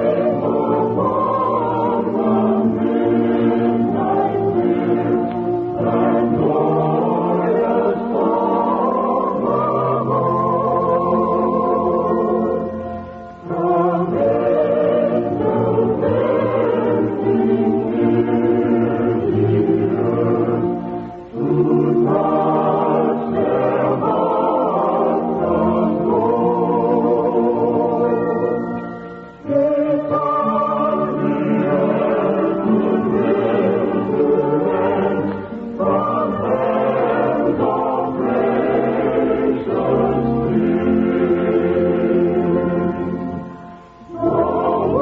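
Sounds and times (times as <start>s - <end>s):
choir singing held chords: 0.0s - 45.0s.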